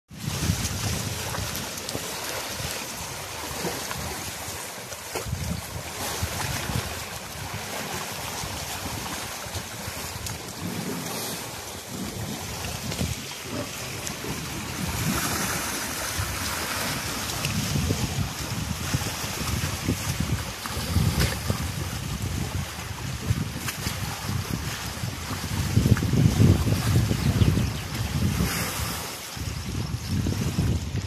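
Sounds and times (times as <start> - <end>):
water sloshing and splashing: 0.1 - 31.0
wind buffeting microphone: 0.1 - 31.0.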